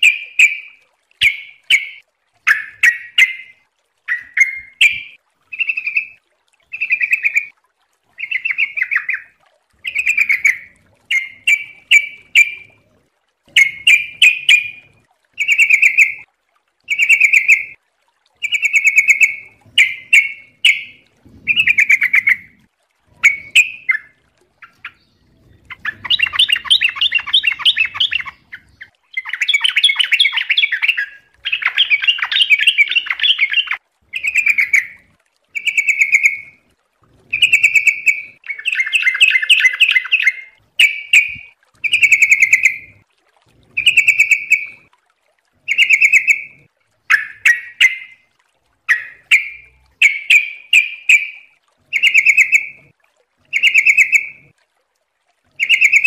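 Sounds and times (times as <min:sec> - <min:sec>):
bird bubbling chatter: 0:00.0 - 0:07.5, 0:08.1 - 0:17.8, 0:18.4 - 0:44.9, 0:45.6 - 0:54.5, 0:55.5 - 0:56.0.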